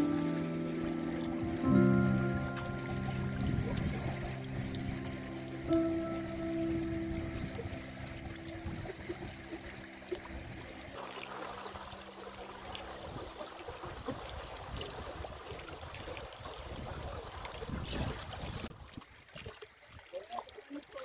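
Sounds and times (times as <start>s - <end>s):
stream water trickling: 0.0s - 21.0s.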